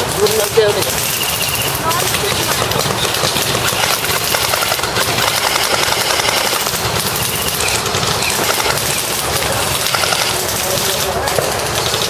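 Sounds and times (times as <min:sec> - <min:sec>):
airsoft guns firing full auto: 0:00.2 - 0:12.0.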